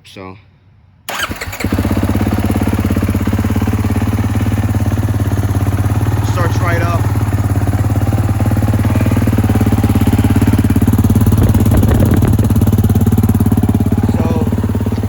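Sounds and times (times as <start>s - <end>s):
motorcycle engine idling: 1.1s - 15.0s.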